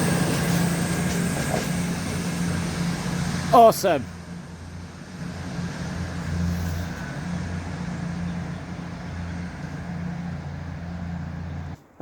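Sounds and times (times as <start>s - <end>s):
diesel train engine droning: 0.0s - 12.0s.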